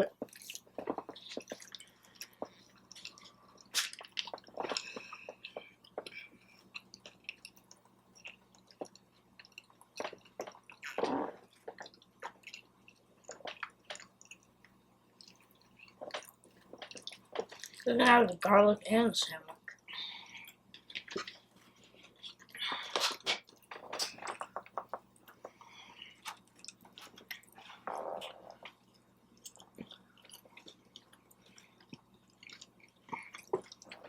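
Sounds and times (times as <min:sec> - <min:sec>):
chewing food: 0:00.1 - 0:17.9, 0:19.6 - 0:34.0.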